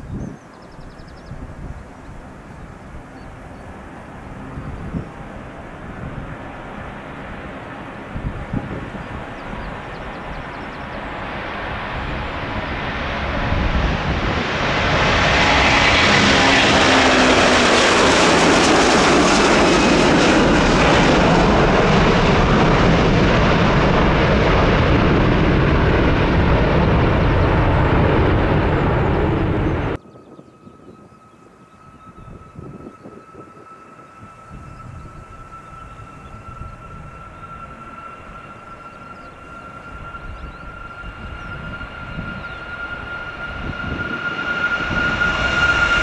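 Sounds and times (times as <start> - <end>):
jet airliner passing: 0.0 - 46.0.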